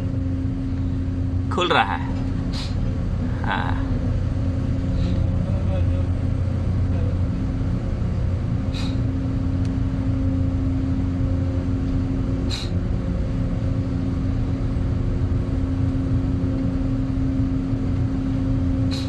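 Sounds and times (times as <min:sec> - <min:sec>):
blower fan humming: 0:00.0 - 0:19.0.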